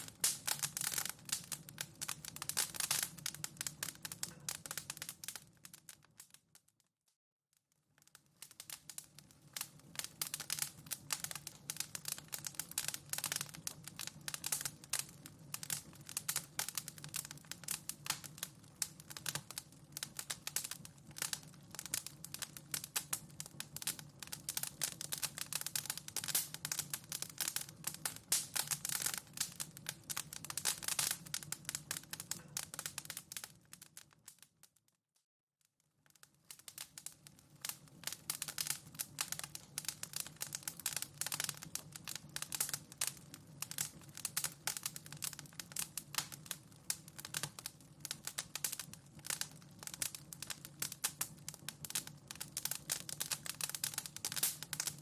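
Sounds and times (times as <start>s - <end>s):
wood fire crackling: 0.0s - 6.7s, 7.8s - 34.5s, 36.0s - 55.0s.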